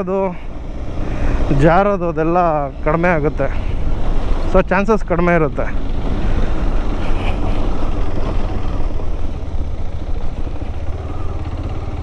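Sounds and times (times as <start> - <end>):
motorcycle engine rumbling: 0.0 - 12.0
tyre and road noise: 0.0 - 12.0.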